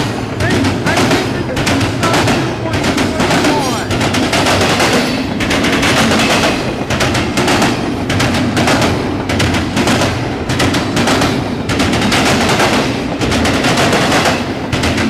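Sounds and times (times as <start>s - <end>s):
low rumble of rolling cars: 0.0s - 15.0s
steel wheels clattering on track: 0.0s - 15.0s.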